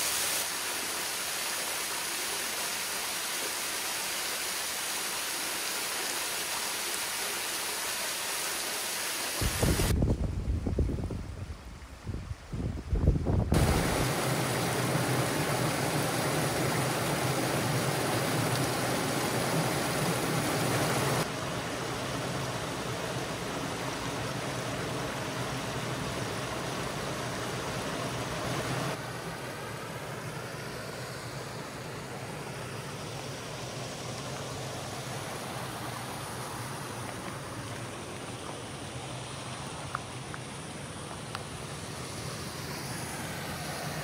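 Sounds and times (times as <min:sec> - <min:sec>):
rushing water: 0:00.0 - 0:10.0, 0:13.5 - 0:44.0.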